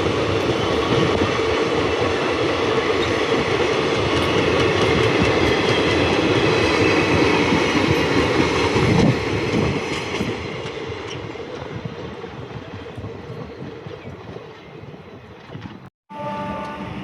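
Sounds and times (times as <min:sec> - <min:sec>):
train rattling past on rails: 0:00.0 - 0:17.0.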